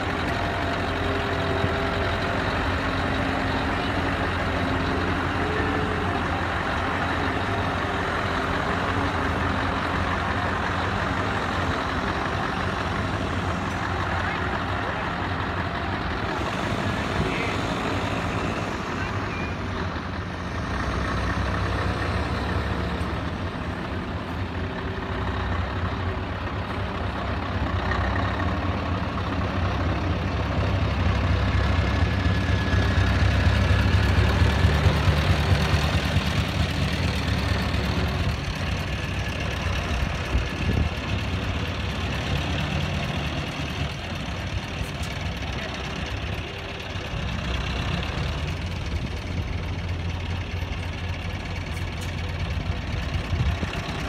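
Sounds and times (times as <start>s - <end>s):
diesel truck driving past: 0.0s - 54.0s.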